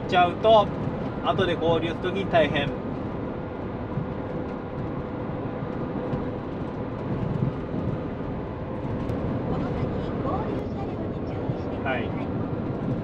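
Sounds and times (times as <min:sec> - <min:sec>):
truck engine and tyre drone: 0:00.0 - 0:13.0.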